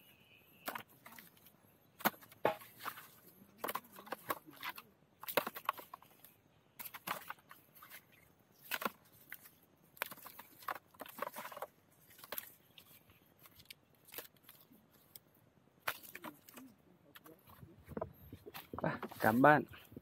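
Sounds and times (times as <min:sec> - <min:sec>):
bamboo shoots rustling: 0:00.6 - 0:20.0.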